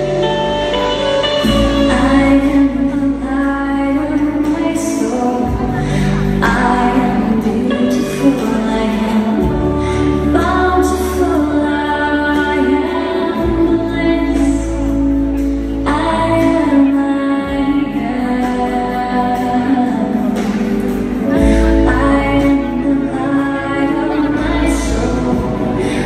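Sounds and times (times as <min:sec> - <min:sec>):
held bass notes: 0:00.0 - 0:26.0
woman singing: 0:00.0 - 0:26.0.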